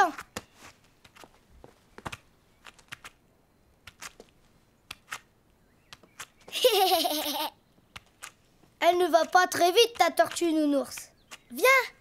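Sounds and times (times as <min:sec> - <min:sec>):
cartoon tapping footsteps: 0:00.0 - 0:03.2, 0:03.8 - 0:05.3, 0:05.9 - 0:12.0.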